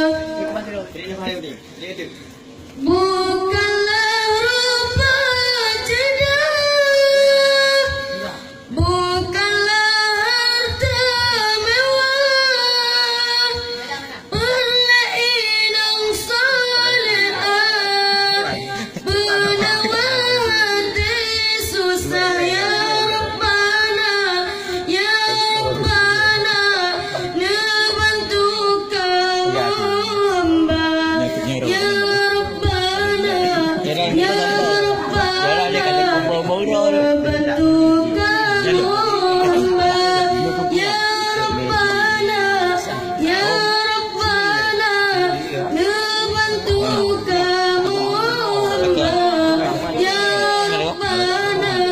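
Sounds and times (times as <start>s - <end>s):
high voice singing: 2.8s - 51.9s.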